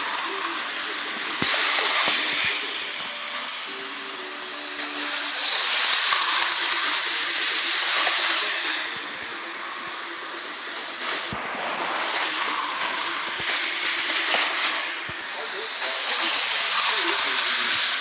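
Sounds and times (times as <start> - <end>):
toy train steam hiss: 0.0 - 18.0.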